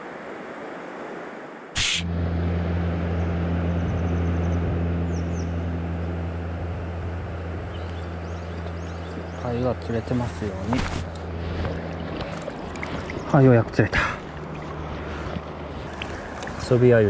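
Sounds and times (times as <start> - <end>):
flowing water: 0.0 - 17.0
low motor hum: 2.0 - 17.0.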